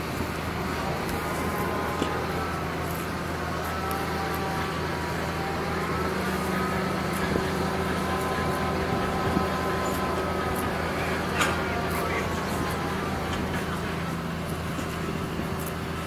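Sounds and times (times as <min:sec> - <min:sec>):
engine running with a whine: 0:00.0 - 0:16.0.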